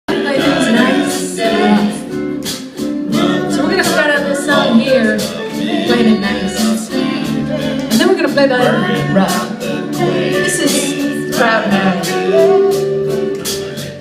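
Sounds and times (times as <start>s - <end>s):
person singing: 0.1s - 2.2s, 3.1s - 14.0s
guitar: 0.1s - 14.0s
live band playing: 0.1s - 14.0s.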